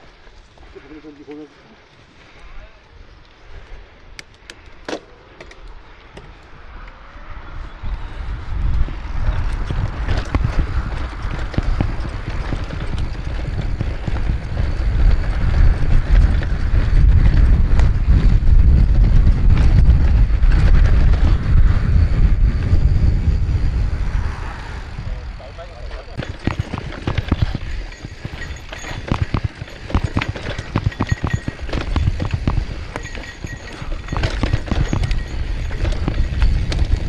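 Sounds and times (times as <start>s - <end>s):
bike rattling over rough ground: 0.0s - 6.8s, 7.5s - 23.9s, 25.5s - 37.0s
wind buffeting microphone: 5.7s - 37.0s.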